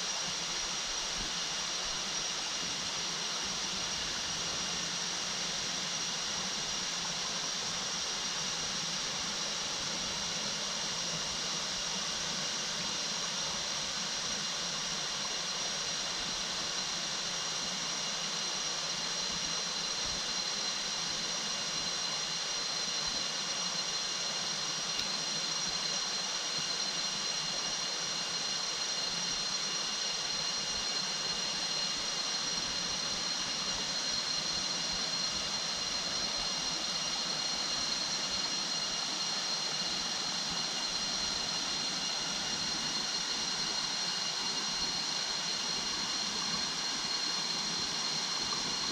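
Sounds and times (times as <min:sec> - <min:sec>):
faint high whine: 0:00.0 - 0:48.9.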